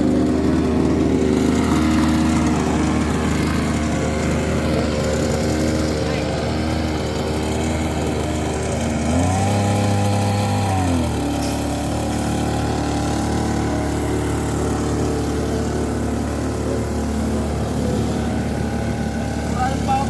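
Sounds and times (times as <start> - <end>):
two-stroke water pump engine: 0.0 - 20.0.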